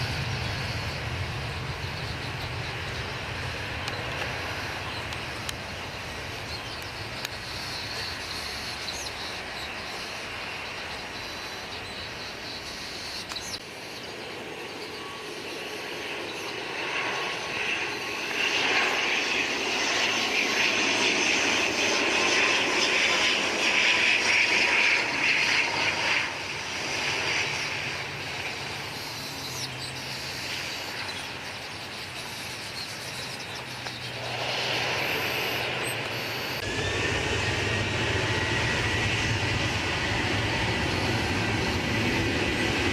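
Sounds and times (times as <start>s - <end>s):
airliner engines passing: 0.0s - 42.9s.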